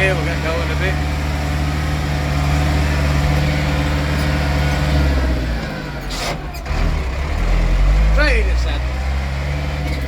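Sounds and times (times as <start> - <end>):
tractor diesel engine pulling: 0.0 - 10.0.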